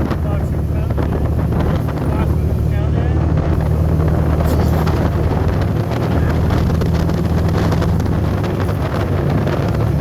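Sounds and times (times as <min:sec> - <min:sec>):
vehicle engine running: 0:00.0 - 0:10.0
wind buffeting microphone: 0:00.0 - 0:10.0.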